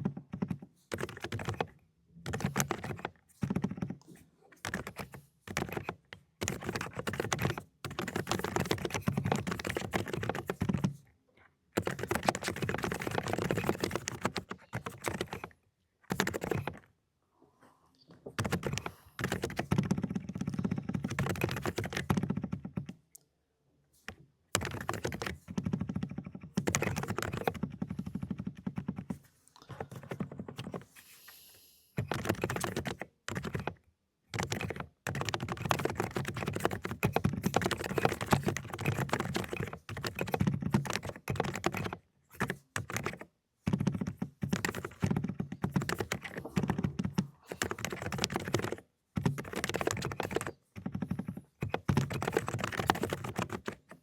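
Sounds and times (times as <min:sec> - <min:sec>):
fast typing on a keyboard: 0:00.0 - 0:11.1, 0:11.7 - 0:16.9, 0:18.4 - 0:23.0, 0:24.1 - 0:31.0, 0:32.0 - 0:54.0.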